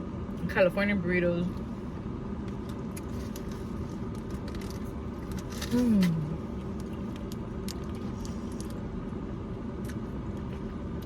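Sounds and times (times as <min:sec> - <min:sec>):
car rumble: 0:00.0 - 0:11.0.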